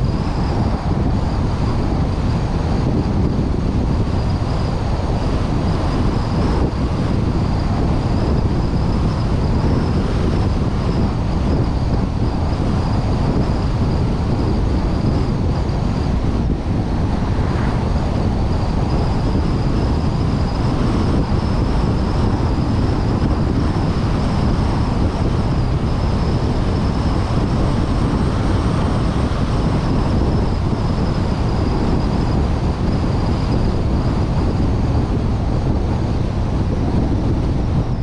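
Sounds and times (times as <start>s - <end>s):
faint high whine: 0.0s - 38.0s
moving vehicle running noise: 0.0s - 38.0s
wind rushing over microphone: 0.0s - 38.0s.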